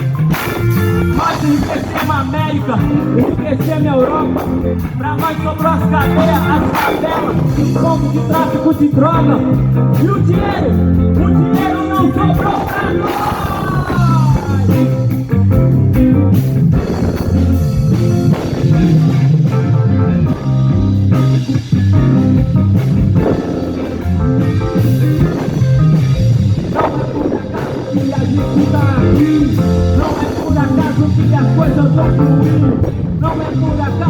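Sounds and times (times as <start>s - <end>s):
instrumental music with bass and guitar: 0.0s - 34.0s.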